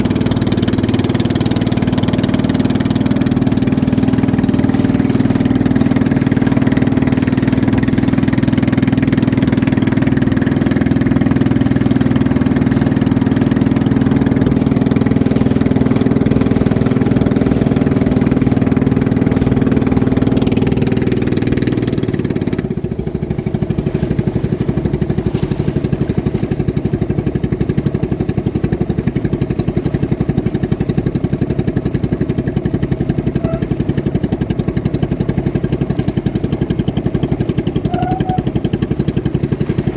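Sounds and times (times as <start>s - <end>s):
racing boat engines: 0.0s - 39.9s.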